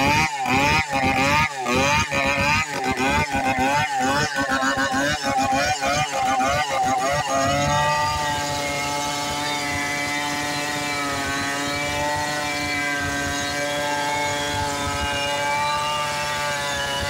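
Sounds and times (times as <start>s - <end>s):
chainsaw cutting log: 0.0s - 17.0s.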